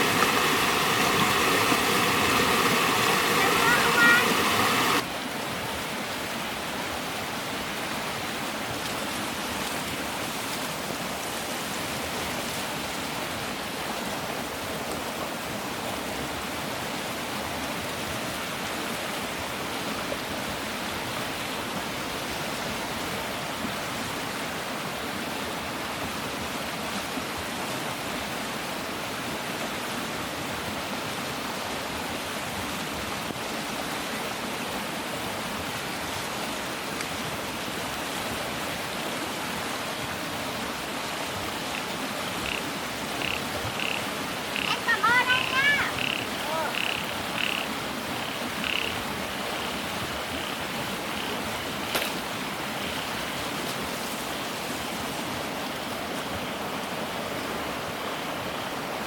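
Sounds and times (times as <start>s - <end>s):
water rushing steadily: 0.0s - 59.0s.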